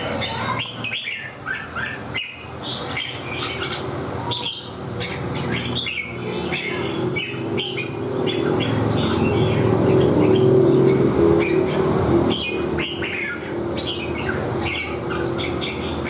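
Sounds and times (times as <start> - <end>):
steady low hum: 0.0 - 16.0
bird whistling and chirping: 0.4 - 16.0.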